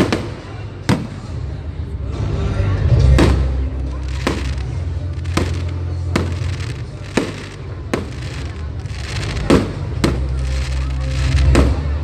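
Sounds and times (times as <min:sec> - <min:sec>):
fireworks bursting: 0:00.0 - 0:01.4, 0:03.0 - 0:12.0.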